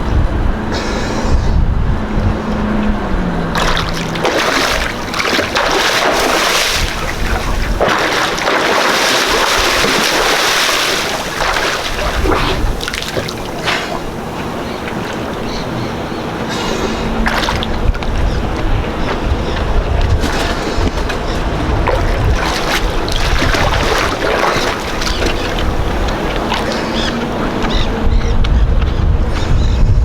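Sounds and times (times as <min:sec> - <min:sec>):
wind buffeting microphone: 0:00.0 - 0:30.0
water splashing and sloshing: 0:02.0 - 0:29.6.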